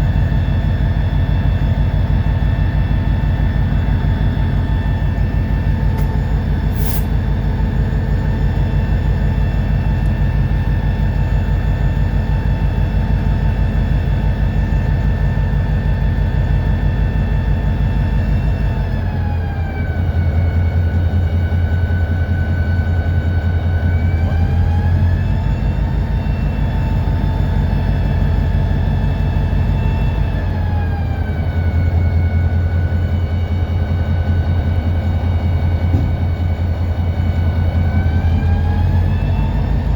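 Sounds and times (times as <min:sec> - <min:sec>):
diesel locomotive engine throbbing: 0:00.0 - 0:39.9.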